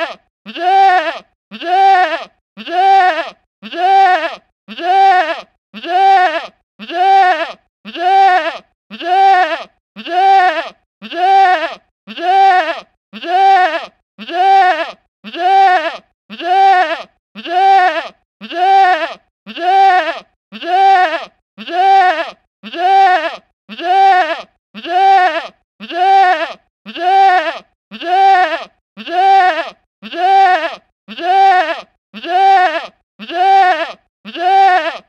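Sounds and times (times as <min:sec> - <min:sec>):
goat bleating: 0:00.0 - 0:35.0.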